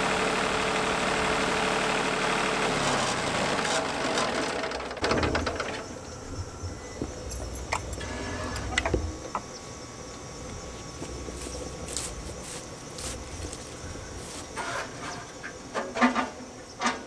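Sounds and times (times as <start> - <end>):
band sawmill cutting log: 0.0 - 9.5, 10.4 - 15.6.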